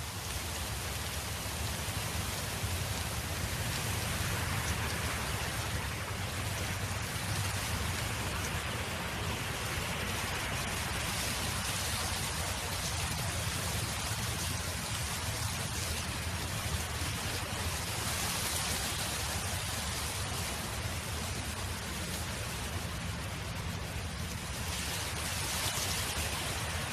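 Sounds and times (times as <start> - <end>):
steady wind noise: 0.0 - 26.9.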